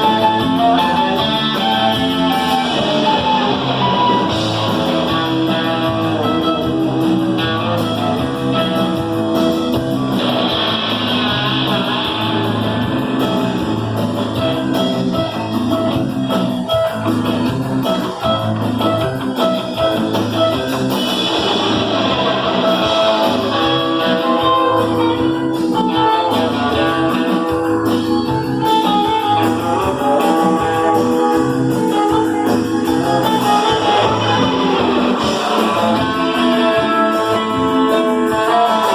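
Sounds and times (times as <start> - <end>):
electric guitar: 0.0 - 38.9
repeating bass line: 0.0 - 38.9
rock band playing live: 0.0 - 38.9.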